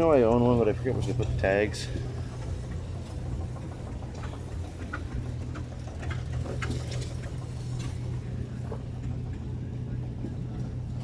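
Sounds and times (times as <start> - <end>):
light irregular ticking: 0.0 - 10.9
low engine hum: 0.0 - 11.0.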